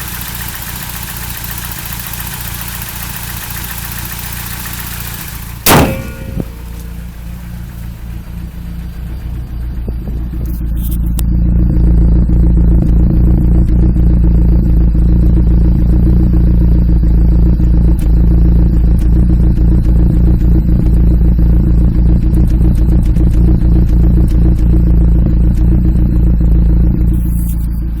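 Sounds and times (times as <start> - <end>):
engine idling roughly: 0.0 - 28.0
engine ticks: 0.0 - 28.0.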